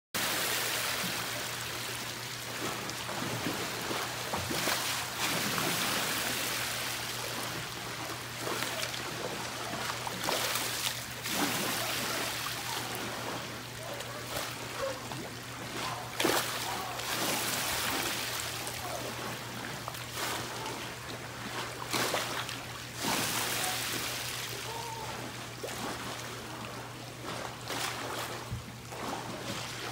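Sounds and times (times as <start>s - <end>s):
pool water sloshing onto concrete: 0.2s - 29.9s.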